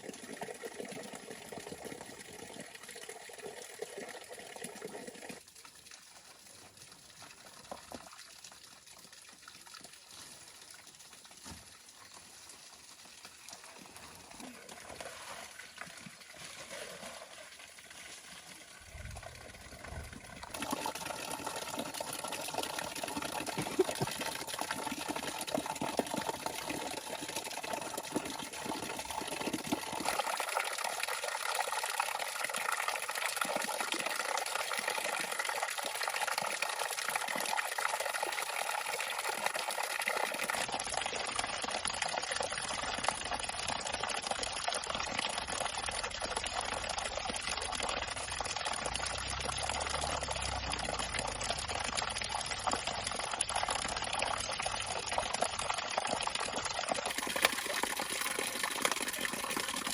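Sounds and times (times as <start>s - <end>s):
running water rushing: 0.0s - 43.8s, 46.2s - 59.9s.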